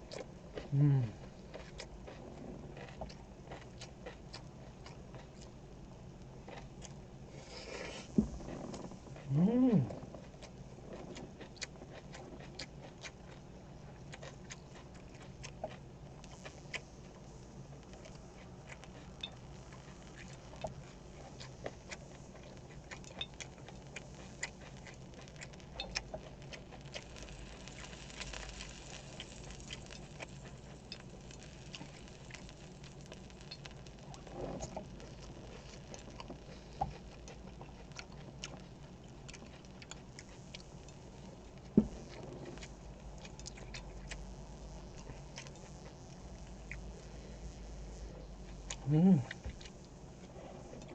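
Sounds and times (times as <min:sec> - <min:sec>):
chewing and mouth sounds: 0:00.1 - 0:05.6, 0:06.4 - 0:07.1, 0:07.8 - 0:47.2, 0:47.9 - 0:50.9.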